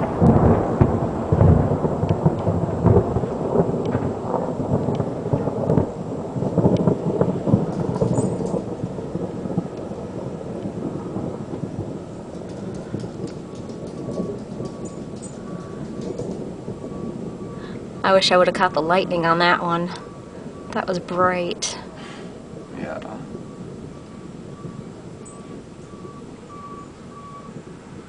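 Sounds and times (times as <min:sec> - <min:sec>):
thunder rumbling and cracking: 0:00.0 - 0:28.0.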